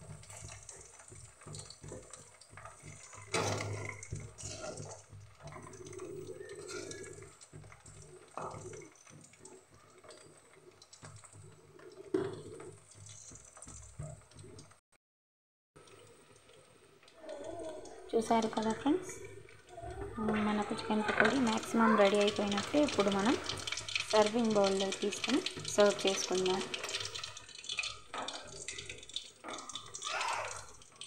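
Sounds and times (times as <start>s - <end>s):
oil bubbling and crackling: 0.0s - 14.8s, 15.8s - 31.0s.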